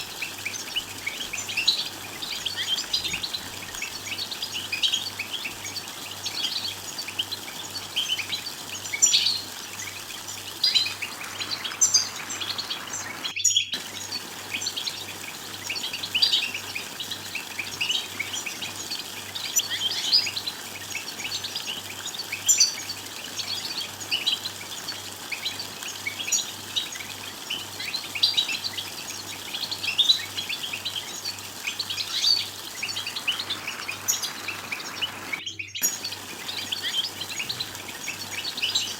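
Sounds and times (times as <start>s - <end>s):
finches twittering: 0.0s - 38.9s.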